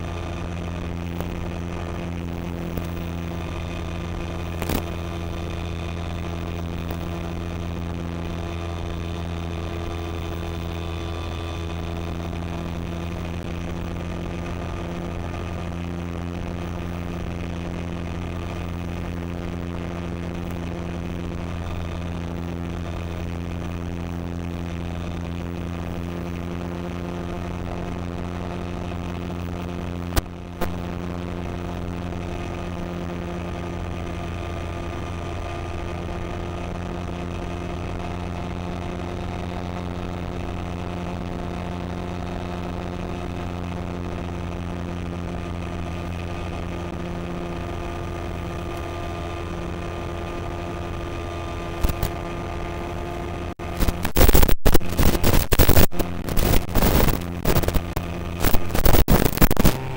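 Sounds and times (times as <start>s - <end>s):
model plane motor droning: 0.0s - 53.8s.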